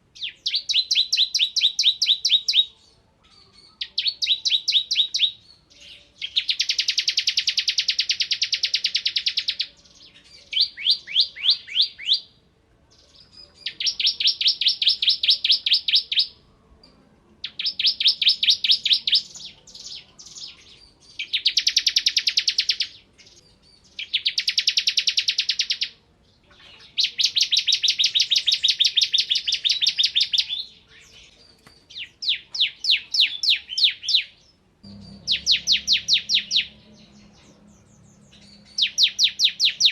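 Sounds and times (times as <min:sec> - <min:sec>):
prinia singing rapid trills: 0:00.0 - 0:39.9.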